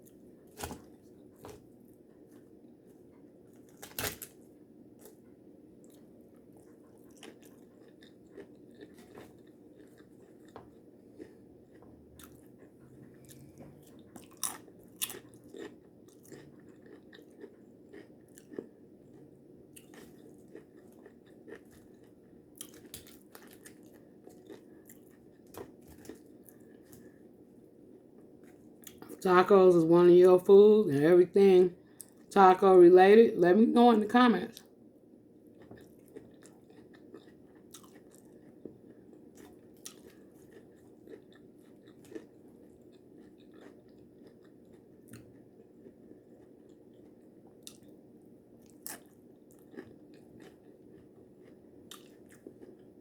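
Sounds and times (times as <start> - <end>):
chewing and crunching chips: 0.0 - 30.7, 31.3 - 32.4, 34.0 - 53.0.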